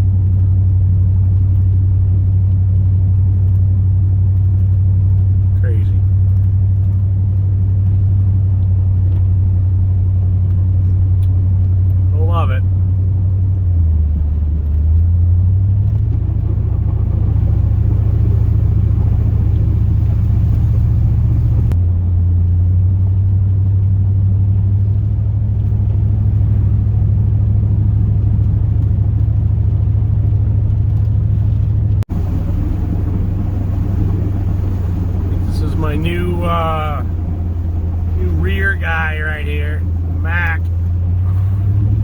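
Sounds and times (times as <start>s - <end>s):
truck engine droning in cab: 0.0s - 42.0s.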